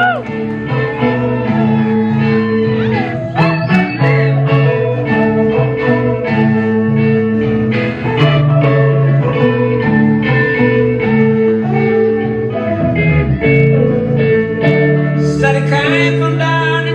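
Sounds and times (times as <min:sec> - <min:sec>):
blues band playing: 0:00.0 - 0:16.9
sliding guitar notes: 0:00.0 - 0:16.9.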